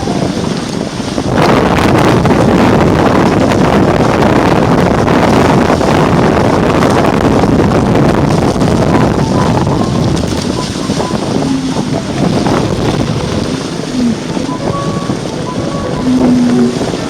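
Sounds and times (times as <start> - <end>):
rushing water: 0.0 - 17.0
wind buffeting microphone: 0.0 - 17.0.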